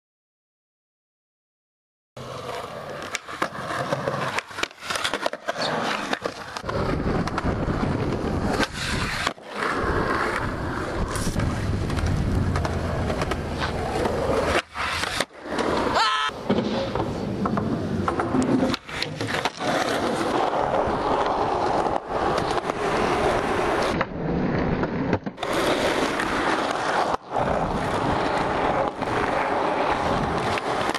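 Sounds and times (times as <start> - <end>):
skateboard wheels rolling on asphalt: 2.2 - 30.9.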